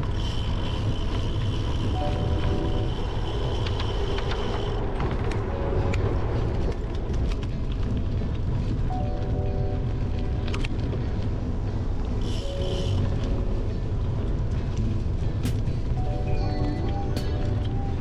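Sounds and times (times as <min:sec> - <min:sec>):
bicycle tyre noise on gravel: 0:00.0 - 0:15.9.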